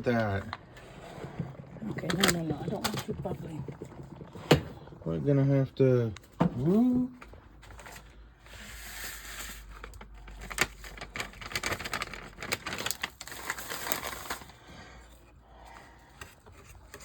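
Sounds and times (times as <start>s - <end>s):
clicks scrapes and crackling in pot: 0.0s - 5.5s, 7.1s - 17.0s.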